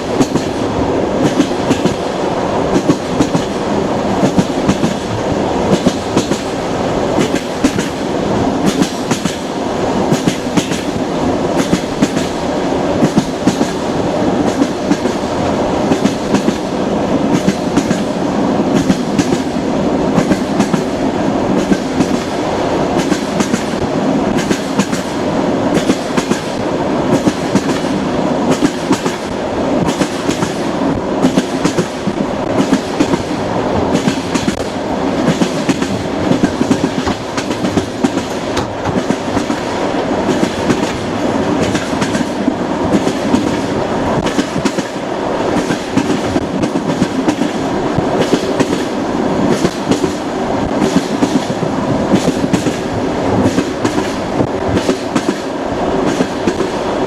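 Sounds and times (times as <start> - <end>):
train wheels clicking over rail joints: 0.0 - 2.1, 2.7 - 12.4, 13.0 - 56.9
train rumbling: 0.0 - 57.0.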